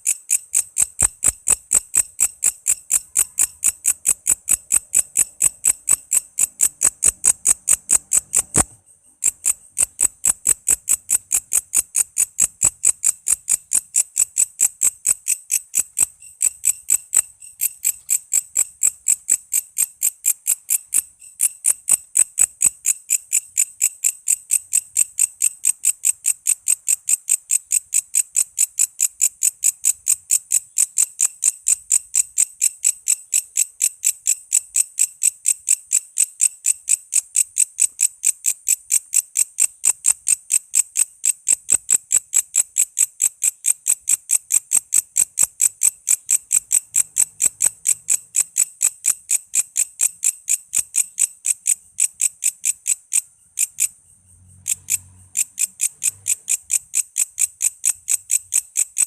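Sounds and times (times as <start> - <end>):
katydid chirping: 0.0 - 59.0.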